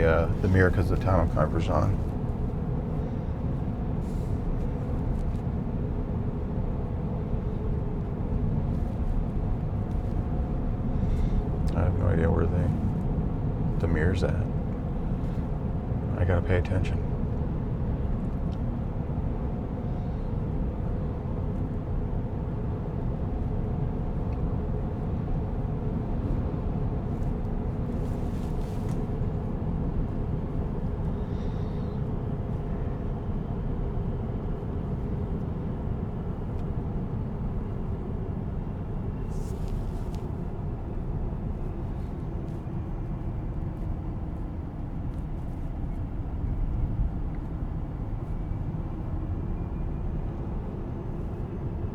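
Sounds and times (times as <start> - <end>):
road and tyre rumble: 0.0 - 51.9.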